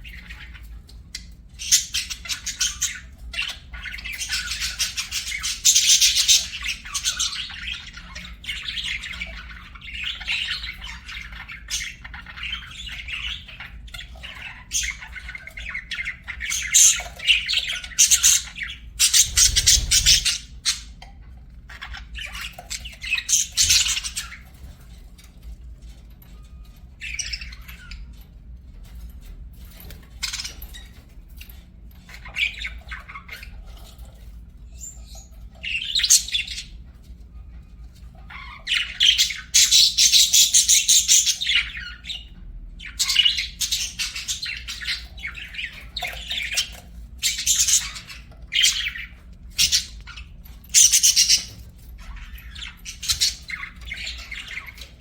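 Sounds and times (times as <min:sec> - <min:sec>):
budgerigars chattering and warbling: 0:00.0 - 0:24.8, 0:26.8 - 0:28.2, 0:29.8 - 0:34.0, 0:34.6 - 0:36.9, 0:38.0 - 0:55.0.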